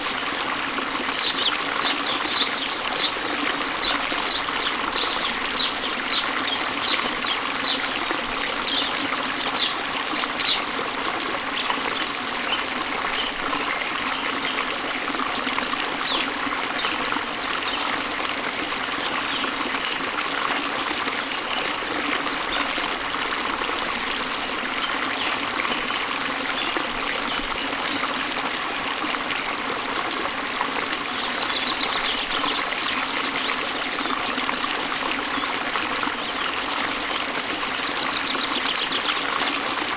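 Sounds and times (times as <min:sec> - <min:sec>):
waterfall water running: 0:00.0 - 0:39.9.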